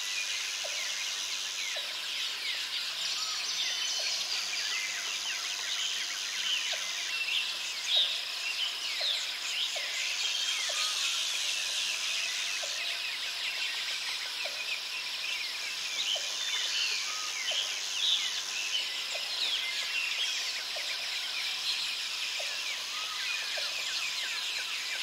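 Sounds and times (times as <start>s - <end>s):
high insect hum: 0.0s - 25.0s.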